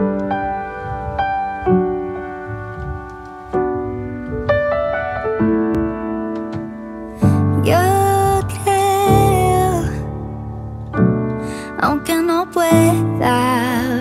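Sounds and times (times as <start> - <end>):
solo piano chords: 0.0 - 14.0.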